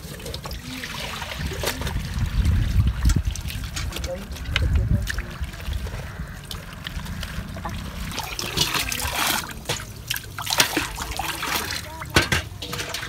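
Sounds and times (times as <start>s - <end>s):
rush of water from basin: 0.0s - 13.0s
water trickling and splashing: 0.0s - 13.0s.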